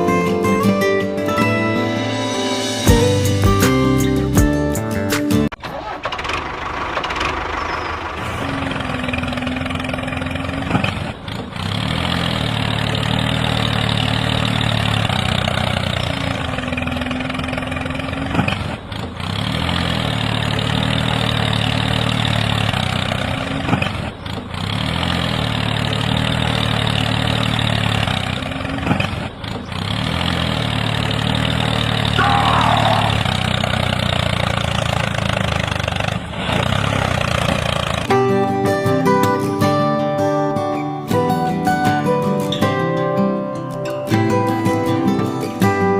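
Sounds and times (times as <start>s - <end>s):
tractor engine idling: 1.8s - 42.5s.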